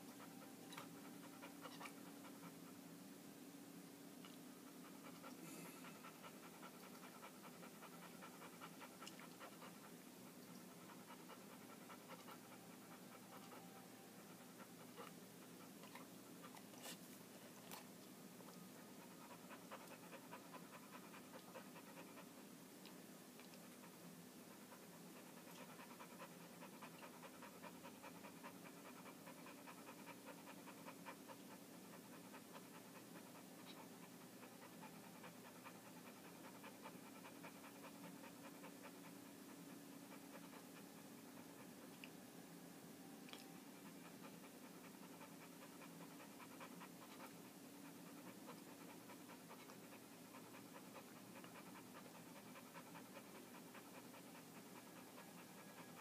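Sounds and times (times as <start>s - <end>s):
dog panting quickly: 0.0s - 2.9s, 4.6s - 17.9s, 18.7s - 22.4s, 23.5s - 41.9s, 43.7s - 56.0s.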